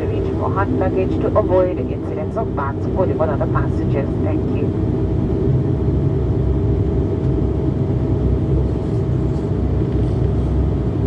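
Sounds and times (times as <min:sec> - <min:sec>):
low rumble and hum in cabin: 0:00.0 - 0:11.0.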